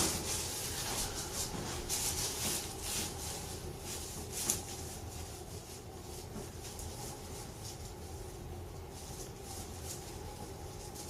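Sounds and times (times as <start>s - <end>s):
rustling of hands and clothing: 0.0s - 11.0s.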